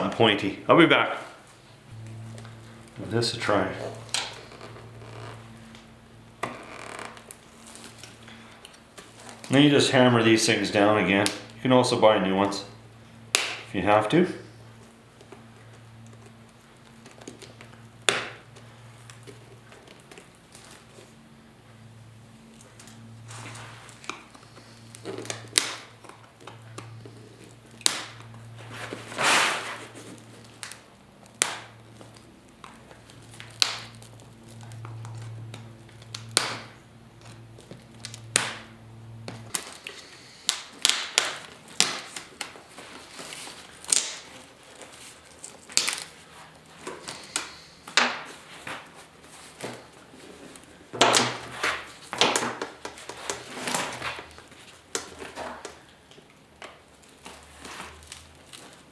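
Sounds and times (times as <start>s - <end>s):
low steady hum: 0.0s - 52.1s.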